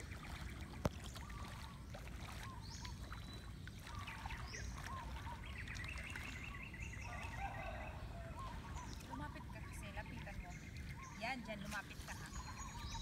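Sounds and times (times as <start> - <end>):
birds chirping: 0.0 - 13.0
wading through shallow water: 0.0 - 13.0.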